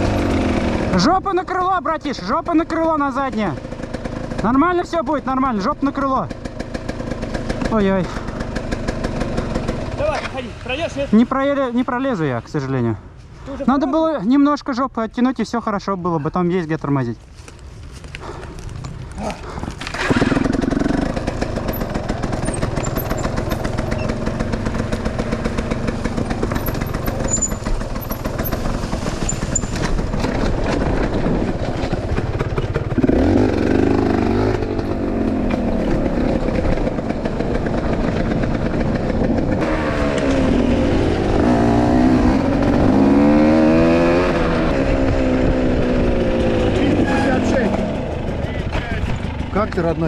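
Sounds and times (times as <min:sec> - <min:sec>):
motorcycle engine revving: 0:00.0 - 0:11.0, 0:19.1 - 0:50.0.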